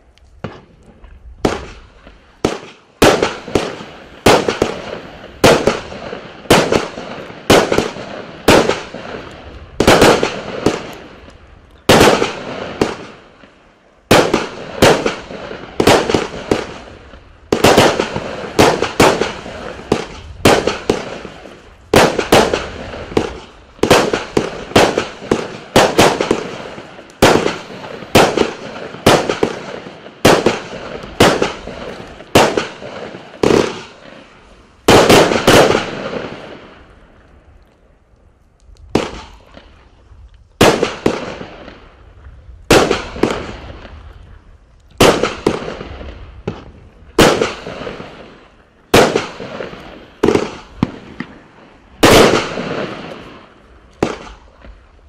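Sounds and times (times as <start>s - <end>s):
fireworks bangs: 0.0s - 37.5s, 38.7s - 40.0s, 40.6s - 54.9s.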